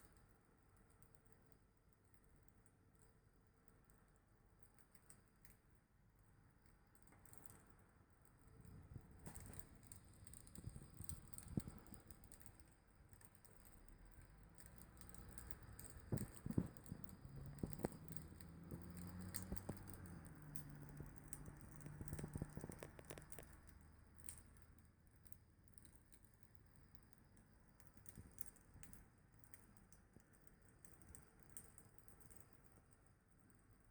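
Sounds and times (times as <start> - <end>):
wood fire crackling: 6.6 - 33.9.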